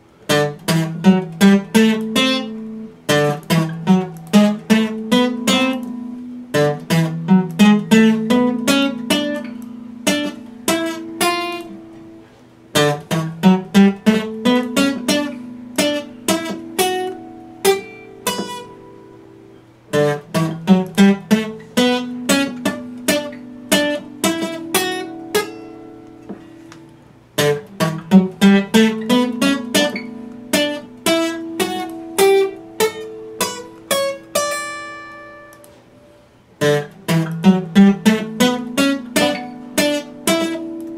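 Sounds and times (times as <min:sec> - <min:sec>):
acoustic guitar picked arpeggios: 0:00.0 - 0:40.9.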